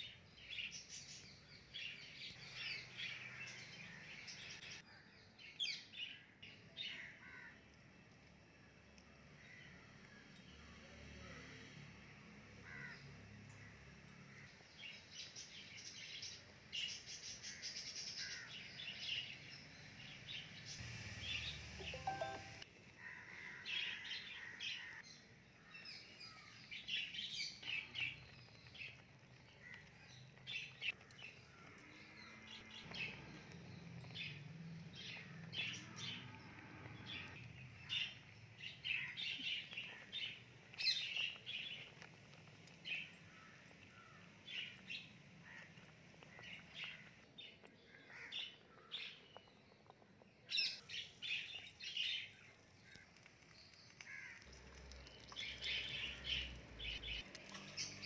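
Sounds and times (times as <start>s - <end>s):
wild birds chirping: 0.0s - 58.0s.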